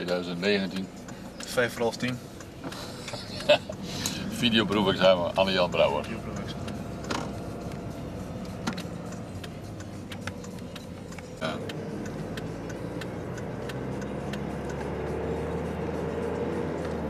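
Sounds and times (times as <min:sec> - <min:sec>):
light clicks: 0:00.0 - 0:14.9
car engine running: 0:00.0 - 0:17.0
road and tyre noise: 0:00.0 - 0:17.0.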